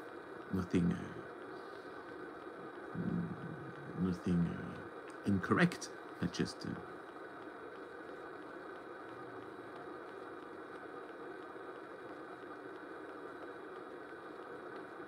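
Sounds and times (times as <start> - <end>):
continuous hiss: 0.0 - 15.0
faint regular ticking: 0.0 - 15.0.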